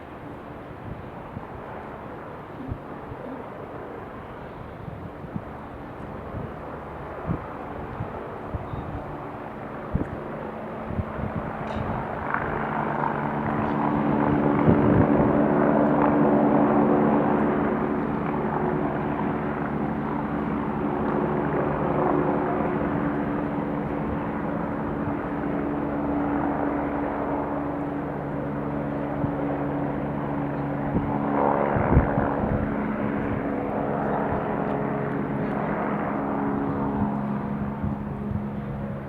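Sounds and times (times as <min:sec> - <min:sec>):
noisy outdoor rush: 0:00.0 - 0:39.0.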